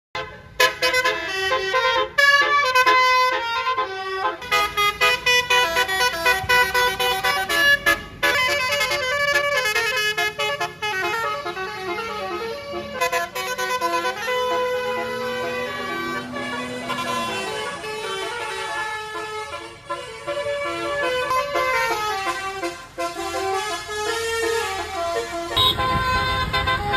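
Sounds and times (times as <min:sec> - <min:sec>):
multi-tone bus air horn melody: 0:00.2 - 0:26.9.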